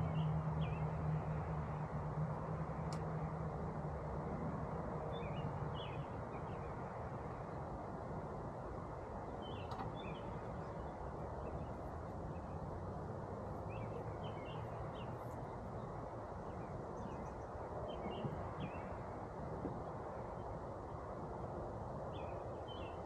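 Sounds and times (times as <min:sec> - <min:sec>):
outdoor background rush: 0:00.0 - 0:23.0.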